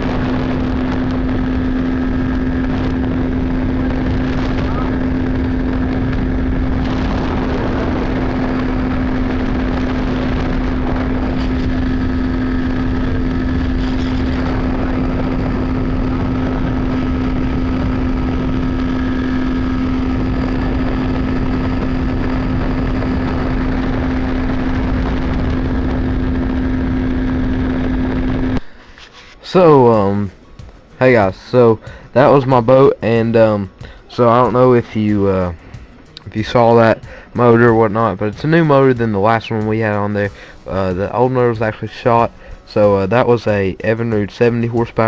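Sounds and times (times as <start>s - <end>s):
outboard motor running: 0.0s - 29.0s, 29.6s - 45.0s
rushing noise: 0.0s - 43.0s.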